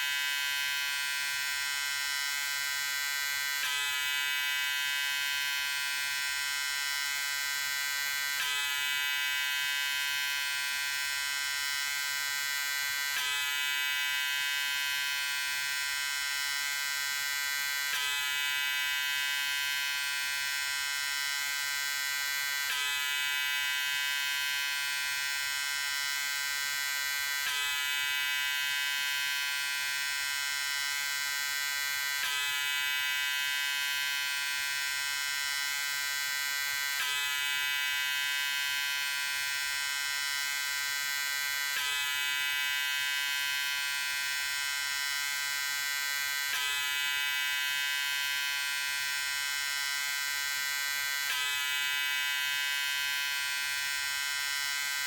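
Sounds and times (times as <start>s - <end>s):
electric razor buzzing: 0.0s - 55.0s.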